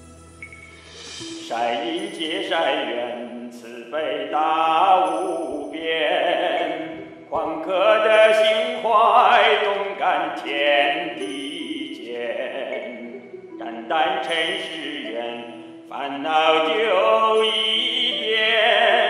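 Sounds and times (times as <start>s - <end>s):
musical accompaniment: 0.0s - 19.0s
person singing chant-like song: 1.2s - 19.0s.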